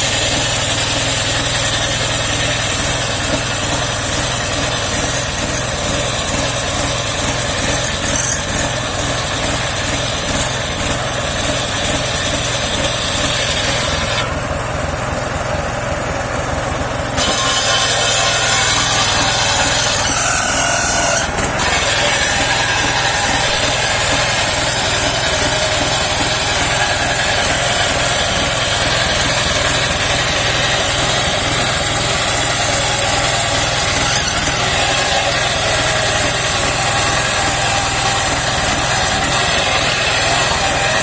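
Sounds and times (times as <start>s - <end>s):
sawmill engine and blade drone: 0.0s - 41.0s.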